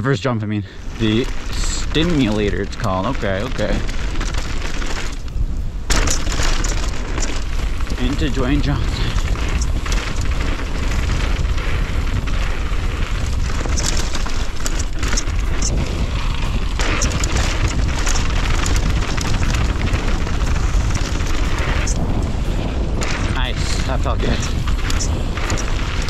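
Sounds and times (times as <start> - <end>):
bike tyres rolling on gravel: 0.7 - 26.0
wind buffeting microphone: 0.7 - 26.0
stones and bike rattling: 0.8 - 26.0.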